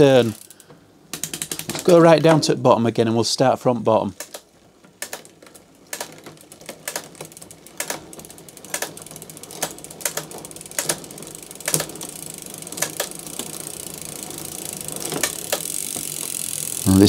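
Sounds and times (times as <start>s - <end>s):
bicycle chain running: 0.0s - 2.3s, 4.2s - 17.0s.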